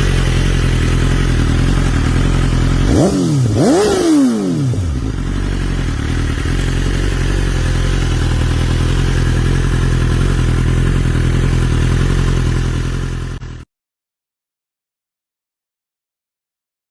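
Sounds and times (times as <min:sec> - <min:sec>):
motorcycle engine idling: 0:00.0 - 0:13.6.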